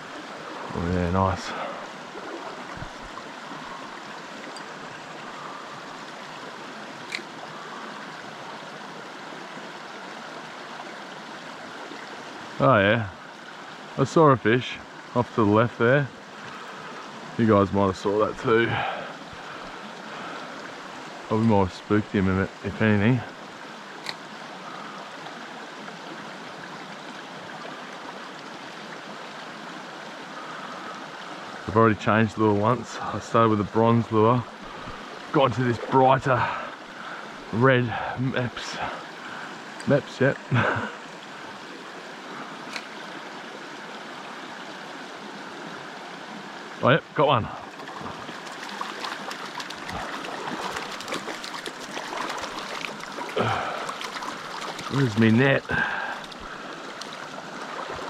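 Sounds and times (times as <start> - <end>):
creek water flowing over rocks: 0.0 - 58.0.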